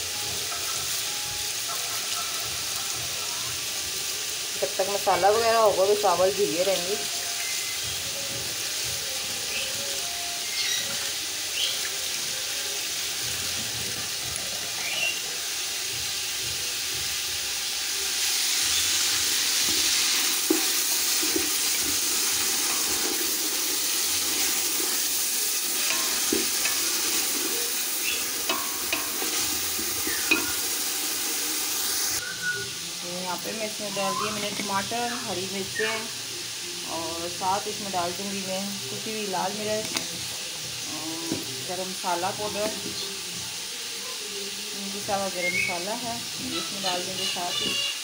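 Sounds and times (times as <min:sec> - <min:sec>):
meat sizzling in a pot: 0:00.0 - 0:48.0.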